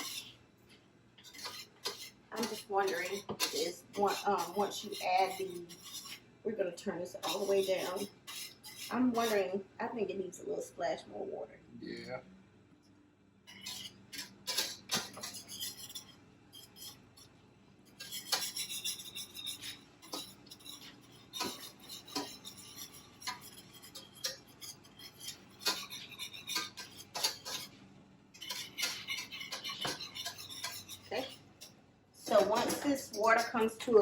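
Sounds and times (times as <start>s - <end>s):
utensil scraping in pan: 0.0s - 0.4s, 1.2s - 9.6s, 13.5s - 27.8s, 28.4s - 34.0s.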